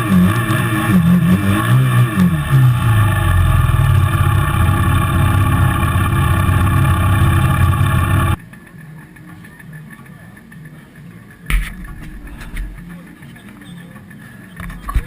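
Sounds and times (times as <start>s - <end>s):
atv engine running: 0.0s - 13.1s.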